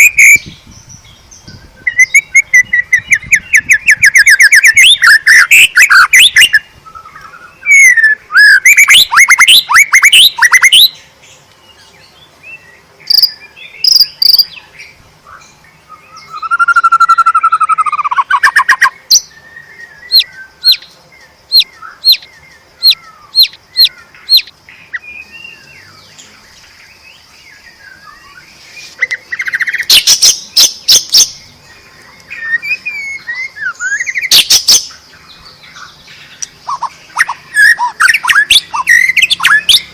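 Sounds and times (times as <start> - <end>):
songbird singing varied phrases: 0.0 - 39.9.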